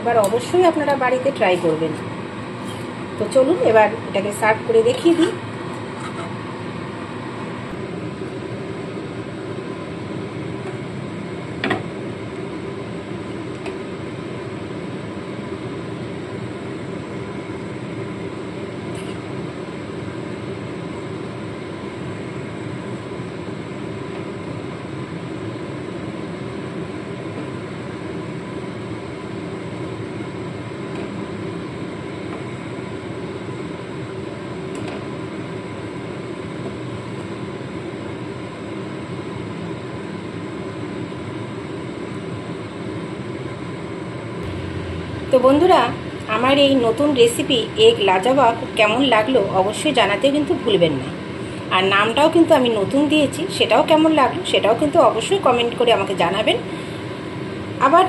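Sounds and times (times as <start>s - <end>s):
machine hum with faint whine: 0.0s - 58.0s.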